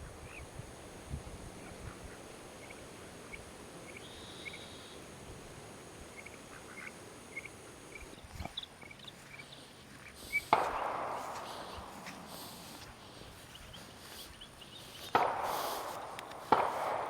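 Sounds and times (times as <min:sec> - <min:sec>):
insect hum: 0:00.0 - 0:17.0.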